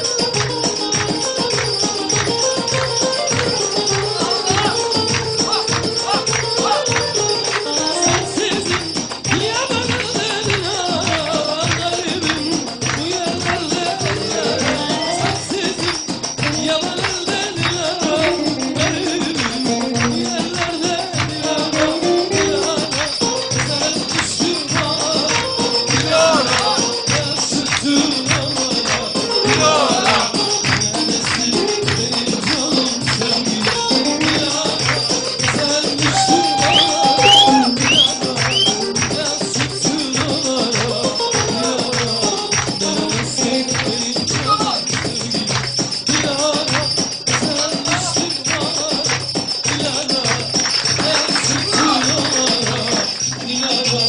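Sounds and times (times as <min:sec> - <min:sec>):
percussion beat: 0:00.0 - 0:54.0
person singing: 0:00.0 - 0:54.0
upbeat dance music: 0:00.0 - 0:54.0.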